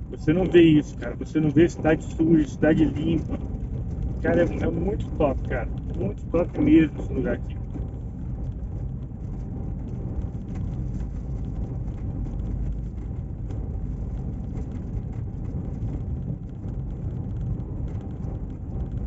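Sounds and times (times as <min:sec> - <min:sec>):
car engine: 0:00.0 - 0:19.0
tyres rumbling over cobblestones: 0:00.0 - 0:19.0.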